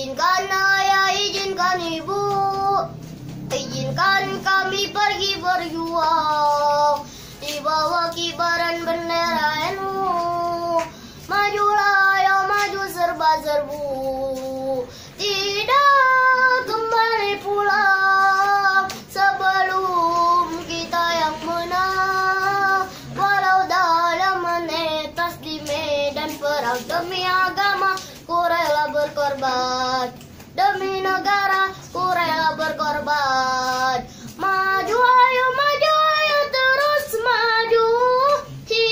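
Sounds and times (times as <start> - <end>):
boy singing unaccompanied: 0.0 - 38.9.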